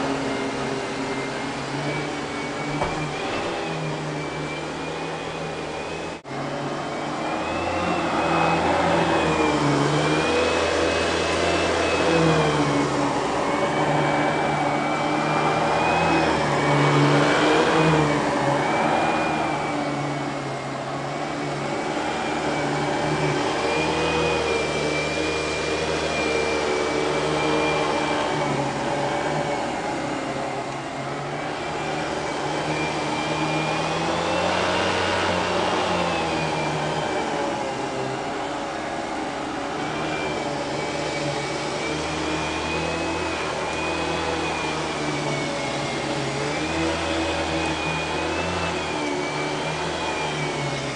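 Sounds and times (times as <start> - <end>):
vacuum cleaner motor whine: 0.0 - 50.9.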